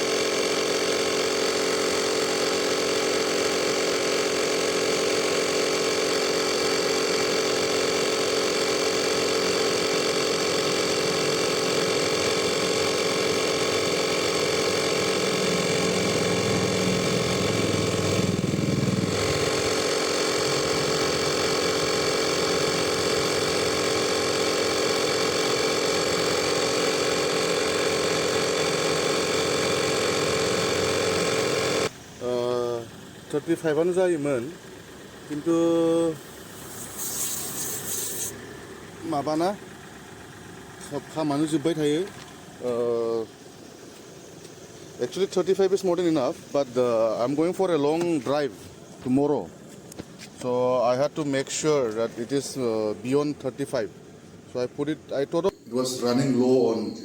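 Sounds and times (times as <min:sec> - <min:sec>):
air compressor buzzing drone: 0:00.0 - 0:57.0.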